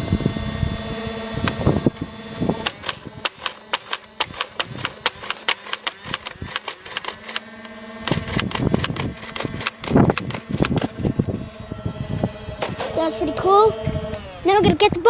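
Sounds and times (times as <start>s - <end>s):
toy dart gun firing clicks: 1.4s - 11.3s, 12.6s - 14.8s.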